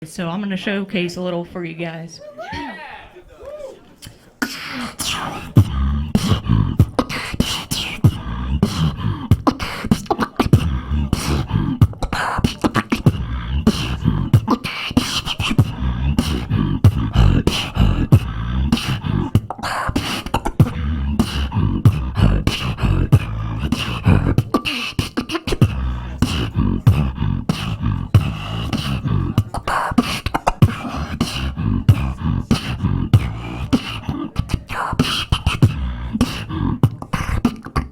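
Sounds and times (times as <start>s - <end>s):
beatboxing: 3.5s - 37.9s.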